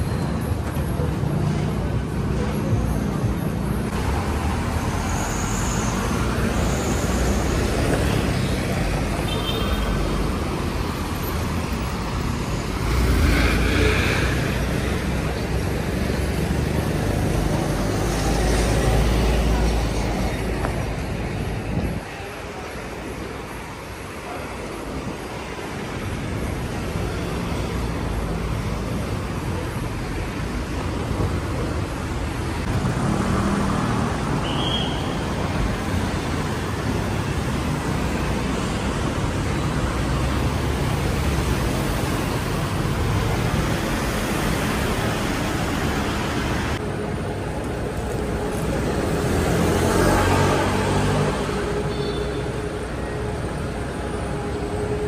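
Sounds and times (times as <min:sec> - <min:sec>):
city traffic passing: 0:00.0 - 0:55.0.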